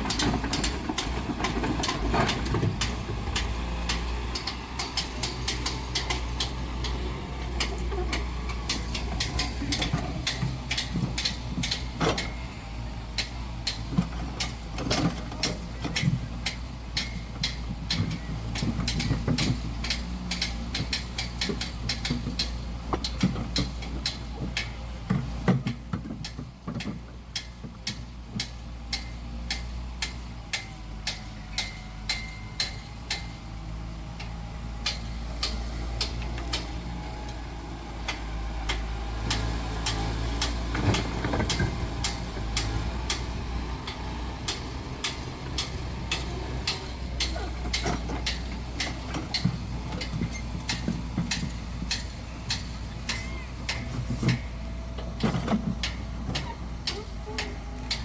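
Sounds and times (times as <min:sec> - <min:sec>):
sharp clicks and knocks: 0:00.0 - 0:12.4, 0:13.1 - 0:33.4, 0:38.0 - 0:58.0.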